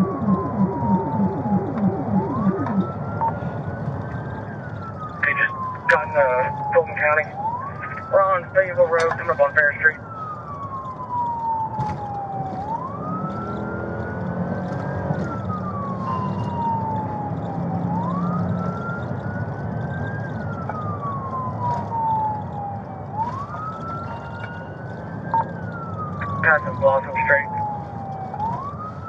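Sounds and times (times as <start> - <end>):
engine and road noise: 0.0 - 29.0
police siren wailing: 0.0 - 29.0.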